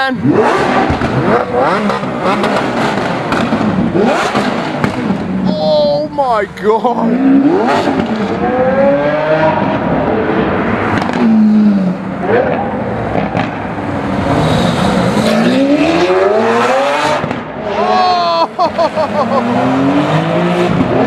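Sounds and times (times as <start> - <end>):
sports car engine revving: 0.2 - 5.4, 7.0 - 17.9, 18.9 - 21.0.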